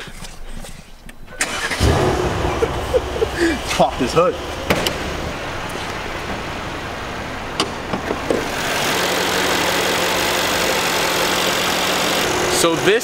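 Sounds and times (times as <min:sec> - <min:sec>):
car engine idling: 0:01.4 - 0:13.0.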